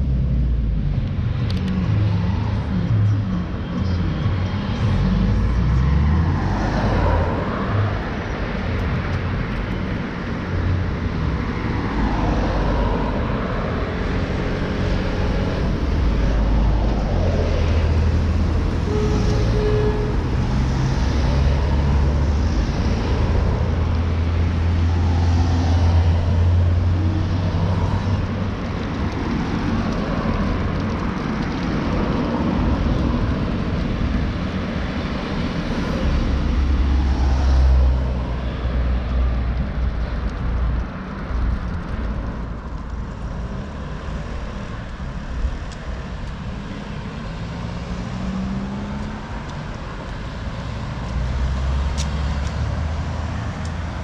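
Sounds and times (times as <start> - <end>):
bicycle ride rumble: 0.0 - 54.0
vehicles passing: 0.0 - 54.0.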